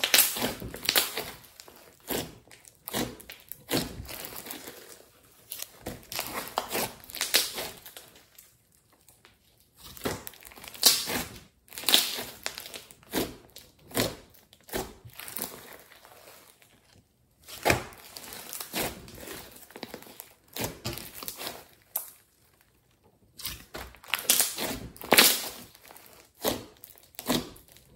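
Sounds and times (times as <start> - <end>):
slime crackling and squishing: 0.0 - 27.9.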